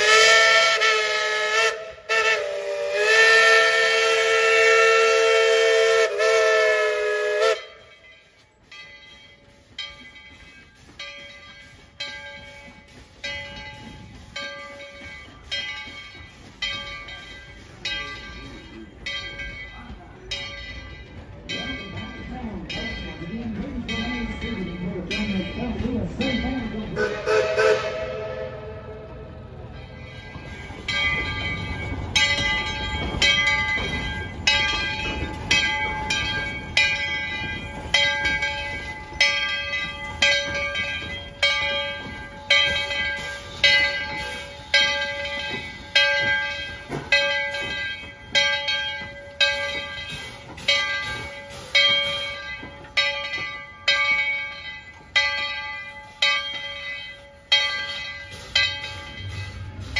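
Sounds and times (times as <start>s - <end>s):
steam locomotive bell ringing: 0.0s - 59.9s.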